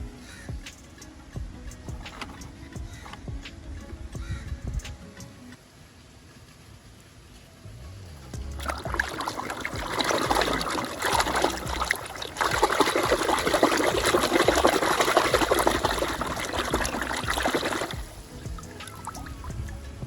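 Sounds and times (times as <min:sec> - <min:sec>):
water running and splashing: 0:00.0 - 0:04.4, 0:06.3 - 0:20.0.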